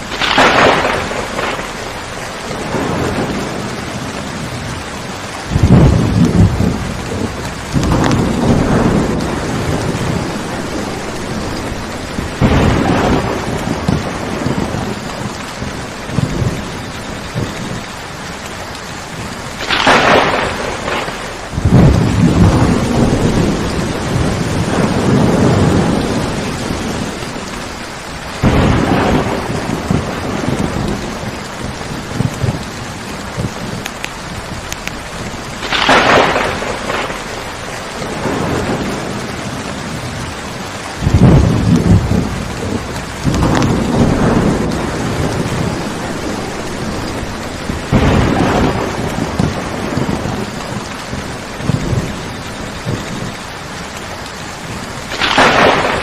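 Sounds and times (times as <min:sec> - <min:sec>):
heavy rain: 0:00.0 - 0:56.0
thunder rumbling: 0:00.0 - 0:56.0.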